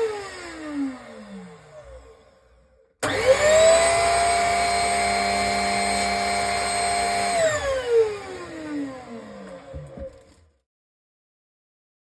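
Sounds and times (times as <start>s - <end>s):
handheld vacuum motor whining: 0.0s - 10.5s.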